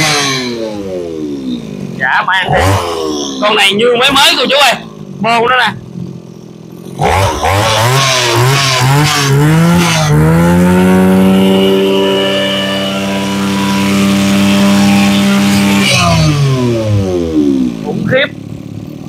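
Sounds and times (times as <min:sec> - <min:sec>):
brush cutter engine revving: 0:00.0 - 0:01.5, 0:02.2 - 0:05.0, 0:06.9 - 0:18.1.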